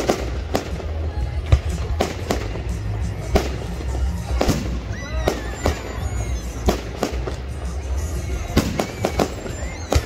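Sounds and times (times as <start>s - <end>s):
firework crackling: 0.0s - 10.0s.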